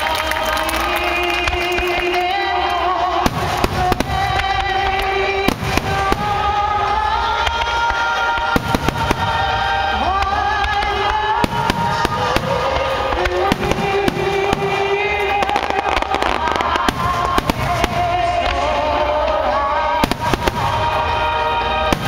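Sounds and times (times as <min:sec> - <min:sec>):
fireworks bursting and crackling: 0:00.0 - 0:22.0
music with long held notes: 0:00.0 - 0:22.0.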